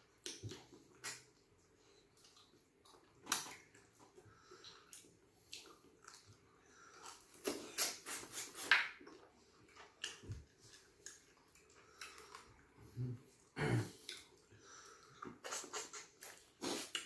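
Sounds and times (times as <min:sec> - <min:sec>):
mouth eating sounds: 0:02.1 - 0:17.0.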